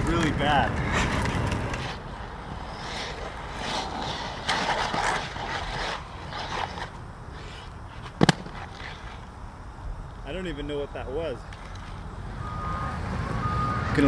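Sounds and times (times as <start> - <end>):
inline skate wheels rolling: 0.0 - 12.9.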